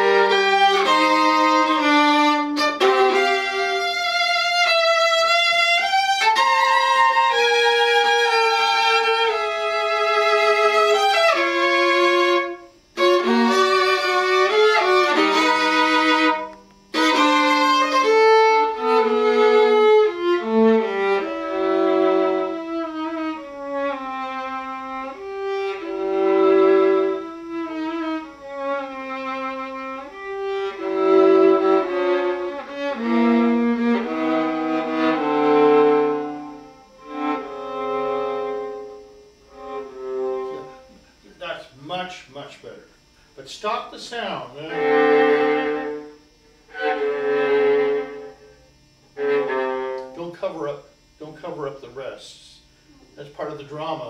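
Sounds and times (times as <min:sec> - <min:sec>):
bowed viola melody: 0:00.0 - 0:41.0, 0:44.5 - 0:50.3.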